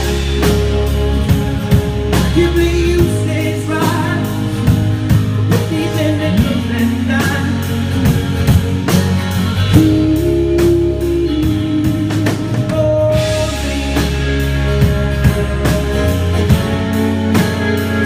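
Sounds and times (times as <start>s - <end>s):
drum kit beat: 0.0s - 18.0s
rock guitar: 0.0s - 18.0s.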